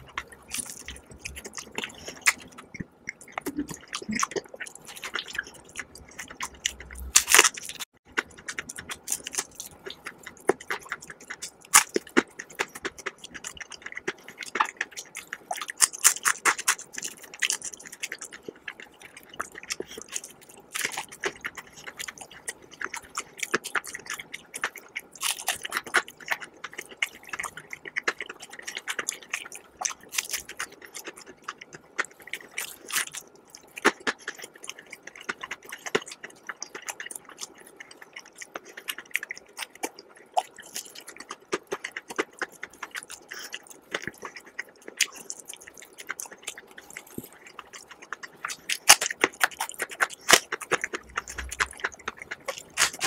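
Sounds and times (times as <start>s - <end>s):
chewing crispy fried chicken: 0.0s - 53.0s.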